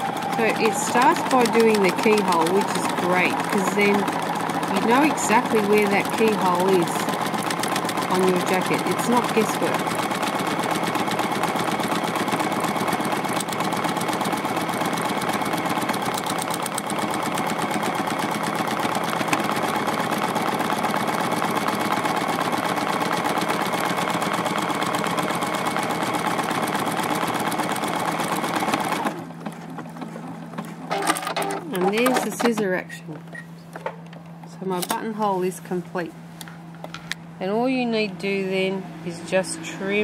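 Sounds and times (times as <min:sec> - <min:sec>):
sewing machine stitching: 0:00.0 - 0:32.7.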